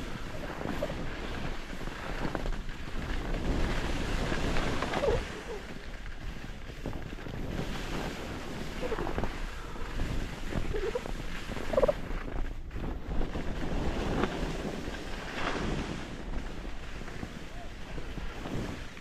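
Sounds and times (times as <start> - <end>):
skis scraping over snow: 0.0 - 19.0
wind buffeting microphone: 0.0 - 19.0.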